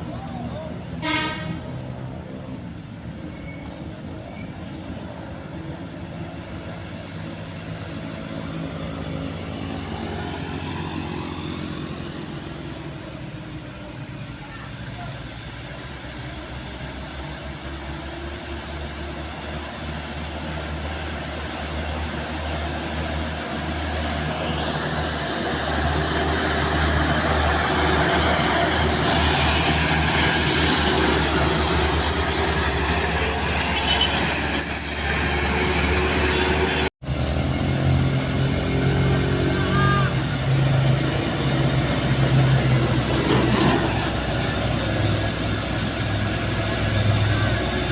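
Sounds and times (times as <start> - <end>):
heavy truck engine running: 0.0 - 47.9.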